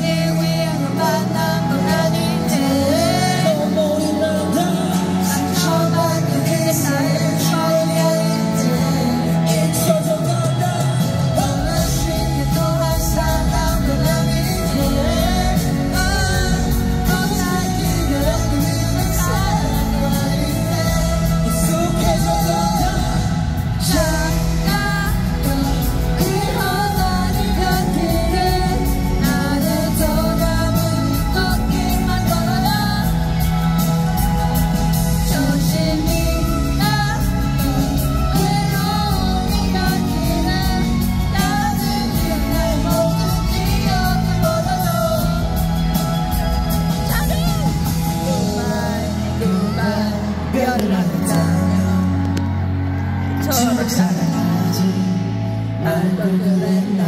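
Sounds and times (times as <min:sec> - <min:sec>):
drums: 0:00.0 - 0:57.0
electric guitar: 0:00.0 - 0:57.0
keyboards: 0:00.0 - 0:57.0
male voices singing: 0:00.0 - 0:57.0.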